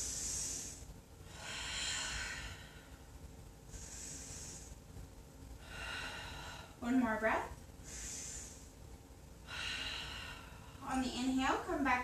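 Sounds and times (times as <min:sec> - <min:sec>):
woman breathing slowly: 0:00.0 - 0:07.0, 0:07.7 - 0:11.2.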